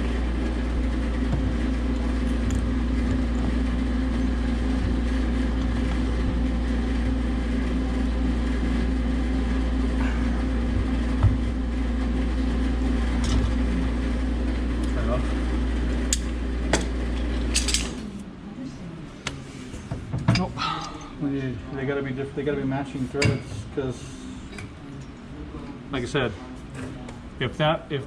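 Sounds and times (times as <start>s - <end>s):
machinery hum: 0.0s - 28.0s.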